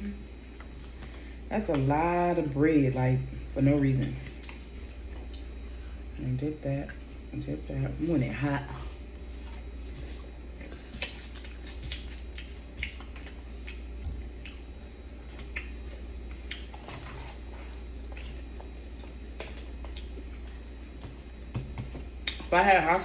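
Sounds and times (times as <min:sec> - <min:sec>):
chewing food: 0:00.0 - 0:02.6, 0:03.2 - 0:08.0, 0:08.6 - 0:22.5
low steady hum: 0:00.0 - 0:23.0.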